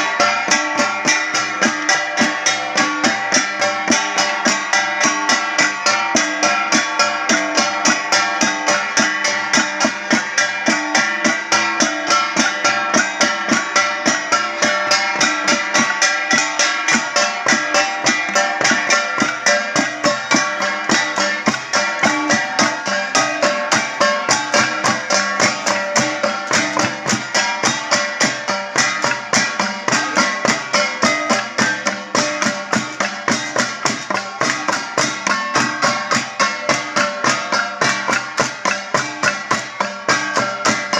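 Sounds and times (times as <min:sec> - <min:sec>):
gongs struck in fast rhythm: 0:00.0 - 0:40.9.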